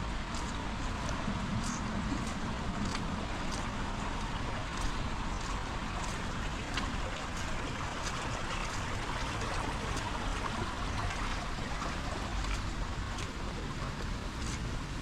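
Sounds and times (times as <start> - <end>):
sharp drip-like taps: 0.3 - 14.7.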